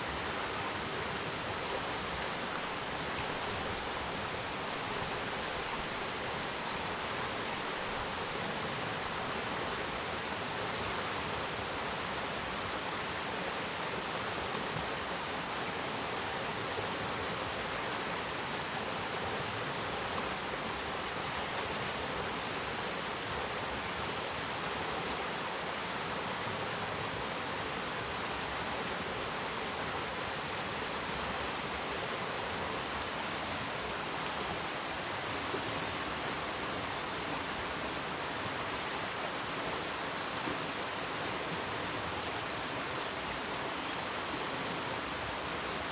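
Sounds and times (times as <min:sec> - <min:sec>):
stream flowing: 0:00.0 - 0:45.9.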